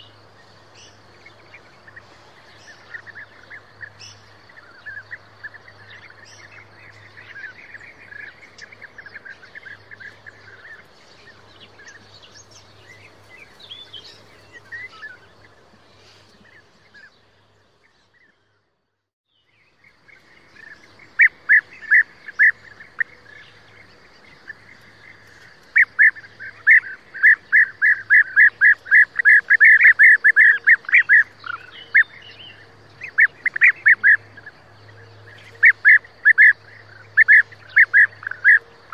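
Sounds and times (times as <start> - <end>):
birds chattering calls: 0.0 - 18.6, 19.4 - 38.9.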